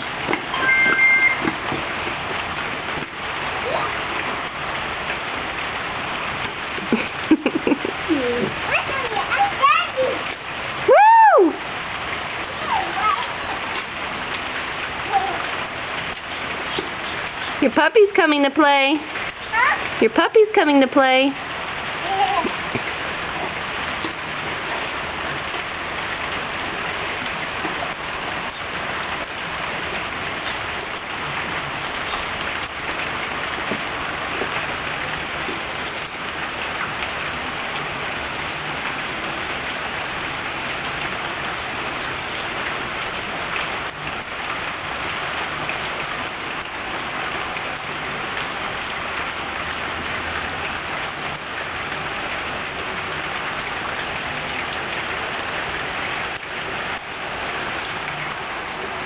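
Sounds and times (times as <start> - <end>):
rain pattering on hard surfaces: 0.0 - 59.0.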